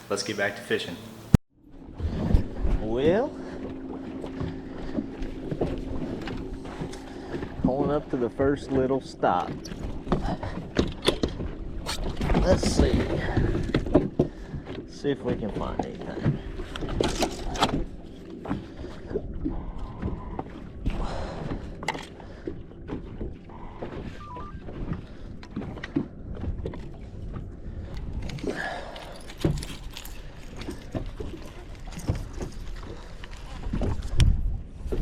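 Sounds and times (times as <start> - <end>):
steady low rumble: 1.1 - 35.0
knocks and thunks on boat: 2.0 - 35.0.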